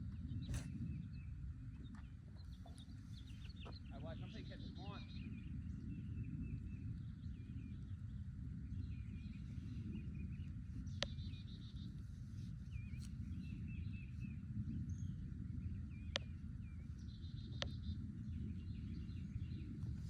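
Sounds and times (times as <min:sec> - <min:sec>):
low background rumble: 0:00.0 - 0:20.0
small birds calling: 0:00.0 - 0:20.0.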